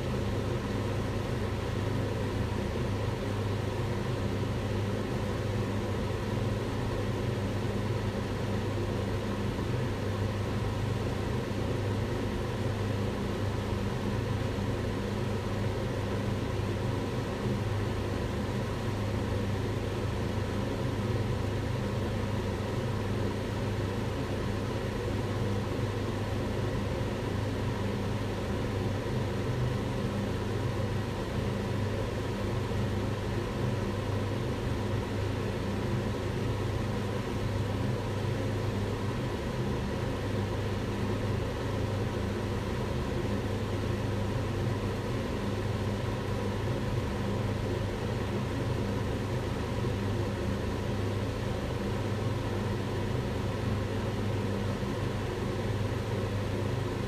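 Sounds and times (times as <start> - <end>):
extractor hood fan running: 0.0 - 57.0.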